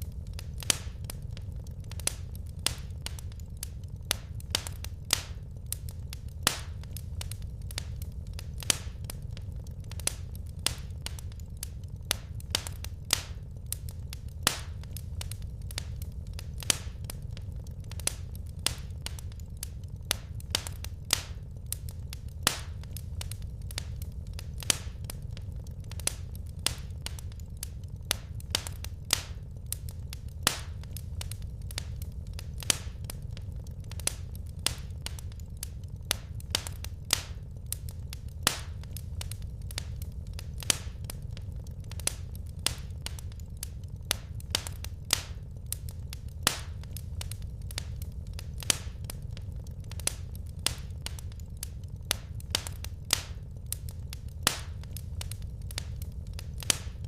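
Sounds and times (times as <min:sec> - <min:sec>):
loud fire pops: 0:00.0 - 0:57.0
low fire rumble: 0:00.0 - 0:57.0
wood fire crackling: 0:00.0 - 0:57.0.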